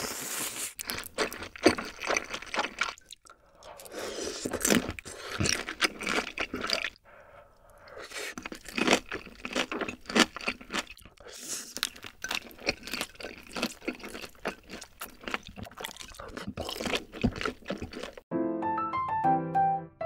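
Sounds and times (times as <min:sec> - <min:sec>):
slurping noodles: 0:00.0 - 0:03.0, 0:03.6 - 0:18.2
wet chewing mouth sounds: 0:00.0 - 0:07.0, 0:07.6 - 0:18.2.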